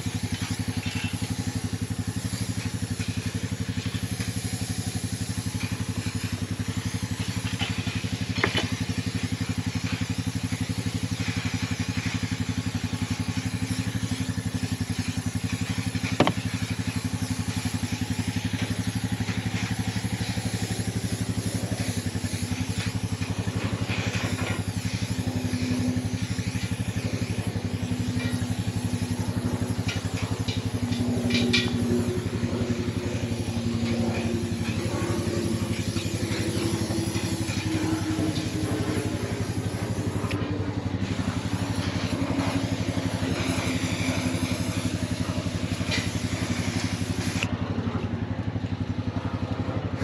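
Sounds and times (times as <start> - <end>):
steady hiss: 0.0 - 47.5
small engine running: 0.0 - 50.0.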